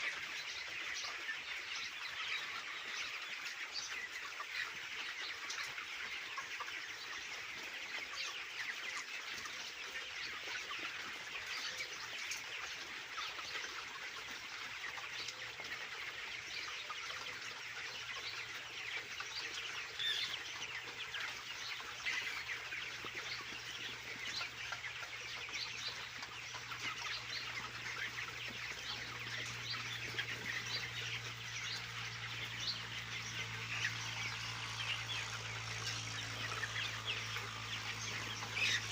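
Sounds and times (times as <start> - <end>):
chickens clucking and peeping: 0.0 - 38.9.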